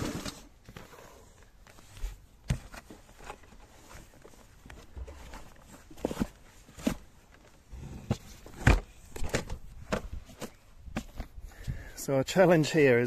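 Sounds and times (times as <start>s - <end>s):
handling noises: 0.0s - 11.6s.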